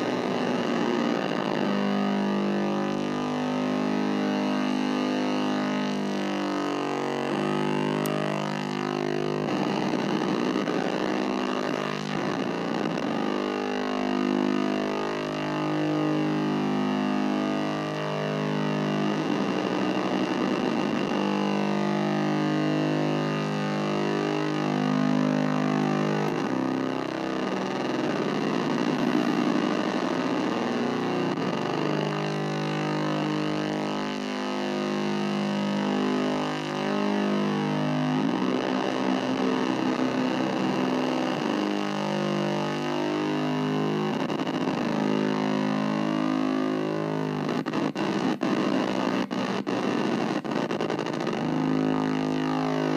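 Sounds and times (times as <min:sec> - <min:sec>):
distorted buzzing synth drone: 0:00.0 - 0:52.9.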